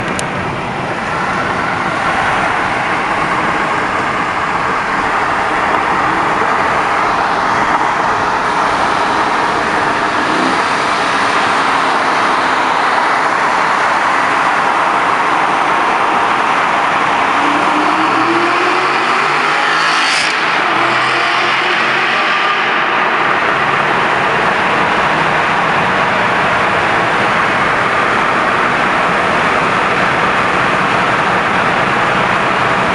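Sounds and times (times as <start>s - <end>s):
car engine echoing in tunnel: 0.0s - 32.9s
road noise: 0.0s - 32.9s.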